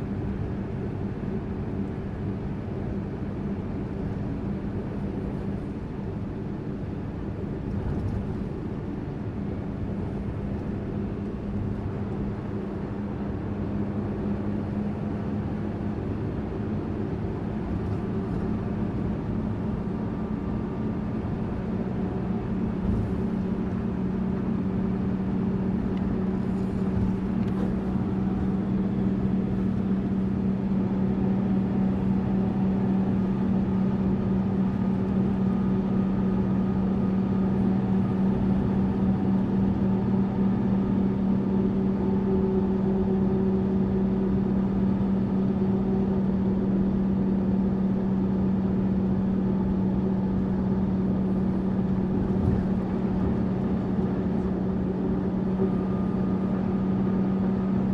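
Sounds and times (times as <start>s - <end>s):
bus engine drone: 0.0s - 57.9s
road noise: 0.0s - 57.9s.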